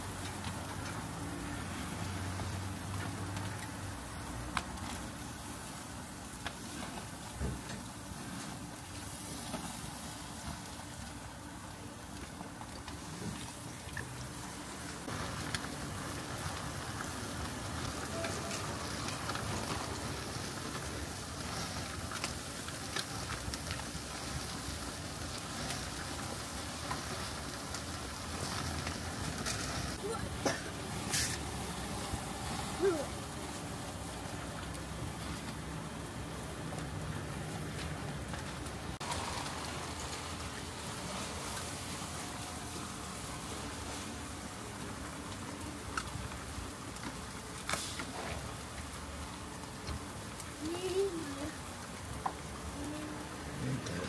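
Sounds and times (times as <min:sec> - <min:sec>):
rush of grill fire: 0:00.0 - 0:54.0
skewers sizzling on grill: 0:00.0 - 0:54.0.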